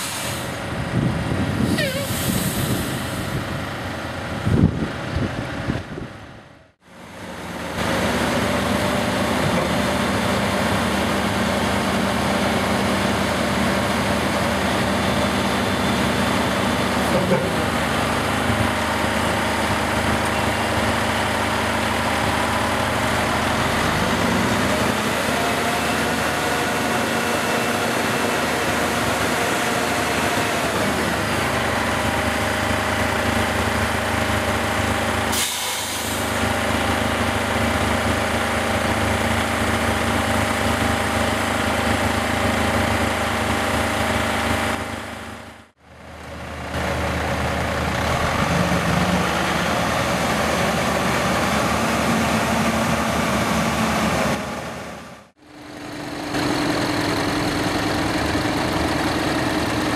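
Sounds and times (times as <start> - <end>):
heavy diesel truck engine under load: 0.0 - 59.9.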